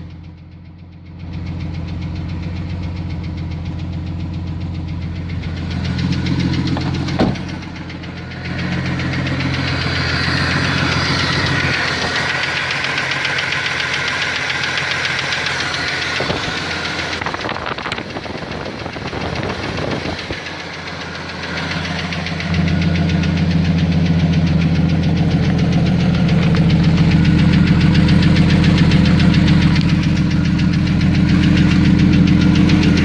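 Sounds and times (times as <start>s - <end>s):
engine running with knock: 0.0s - 33.0s.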